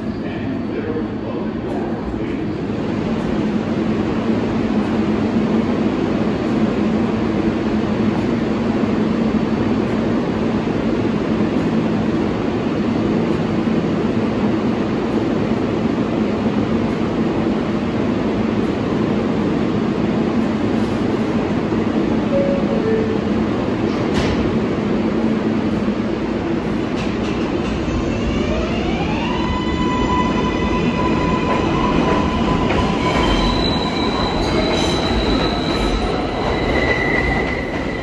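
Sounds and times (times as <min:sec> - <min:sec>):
subway train wheels rumbling: 0:00.0 - 0:38.0.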